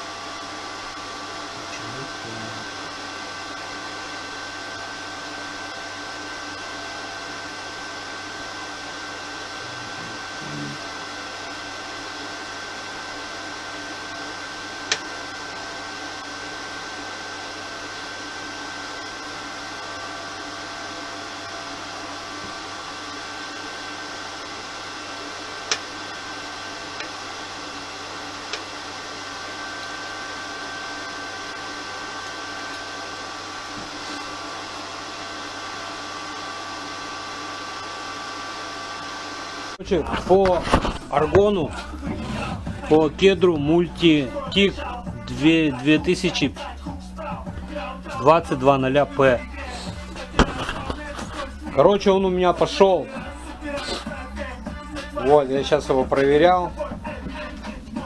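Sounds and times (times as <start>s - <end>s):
welder cooling fan running: 0.0s - 58.0s.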